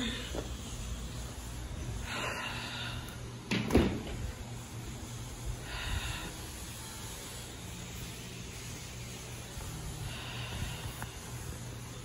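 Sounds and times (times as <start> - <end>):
soft hisses: 0.0 - 3.3, 4.2 - 12.0.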